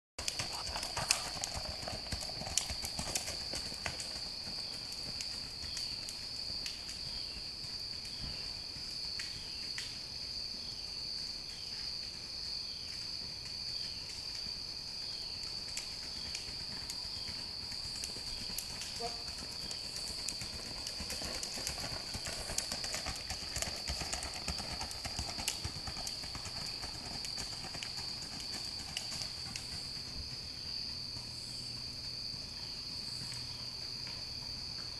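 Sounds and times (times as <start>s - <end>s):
horse hooves on dirt trail: 0.2s - 34.9s.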